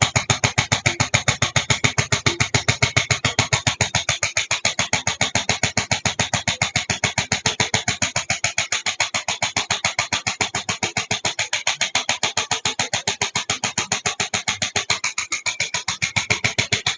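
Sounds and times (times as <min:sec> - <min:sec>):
rapid percussive taps of adjustment gun: 0:00.0 - 0:16.9.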